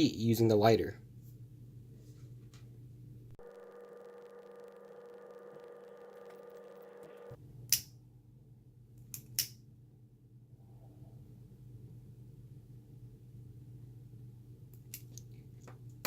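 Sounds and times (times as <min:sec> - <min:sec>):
low steady hum: 0:01.0 - 0:16.0.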